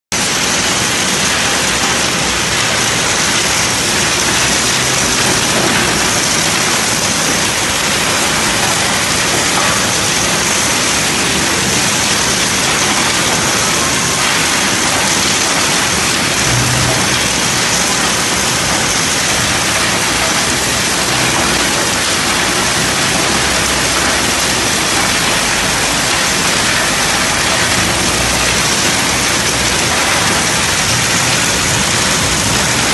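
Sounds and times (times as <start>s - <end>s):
coal conveyor rushing noise: 0.1s - 32.9s.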